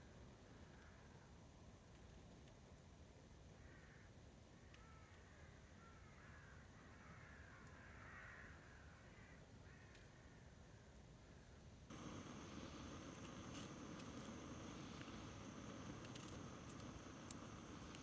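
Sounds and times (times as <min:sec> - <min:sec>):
faint bird calls: 0:03.5 - 0:18.0.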